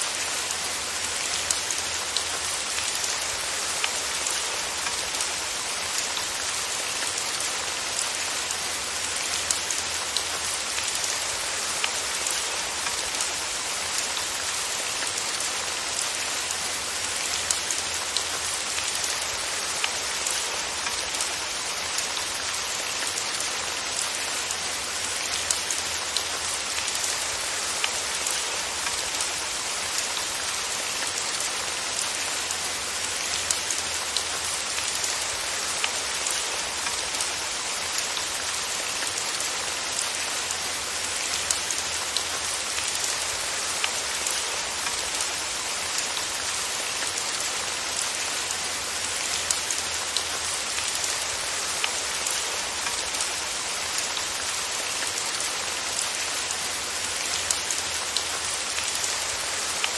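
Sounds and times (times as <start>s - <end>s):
steady rain falling: 0.0s - 59.9s
raindrops ticking on a surface: 0.1s - 59.9s.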